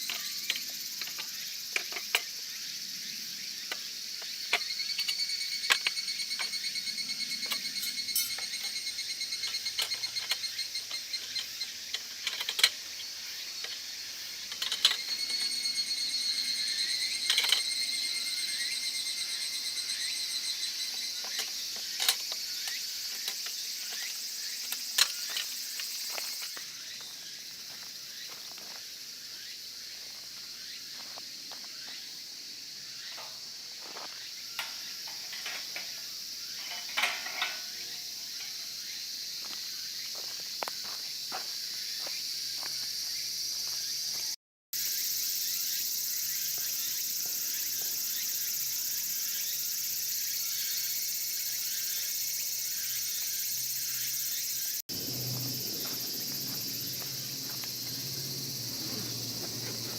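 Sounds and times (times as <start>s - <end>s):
high hiss of insect noise: 0.0s - 59.9s
insects trilling: 0.0s - 59.9s.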